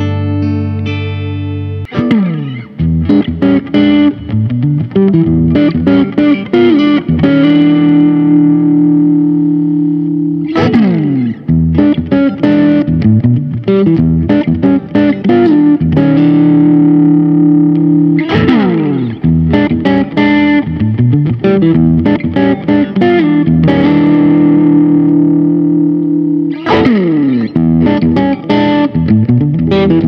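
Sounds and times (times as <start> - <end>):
clean electric guitar chord: 0.0 - 30.0
distorted electric guitar lead: 0.0 - 30.0.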